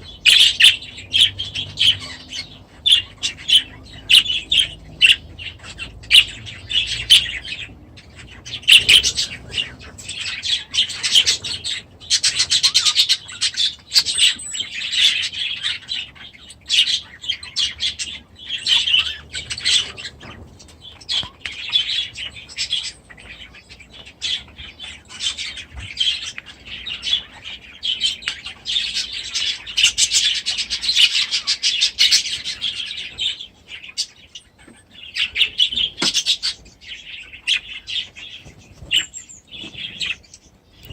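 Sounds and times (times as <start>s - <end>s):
small birds chirping and chattering: 0.0s - 40.9s.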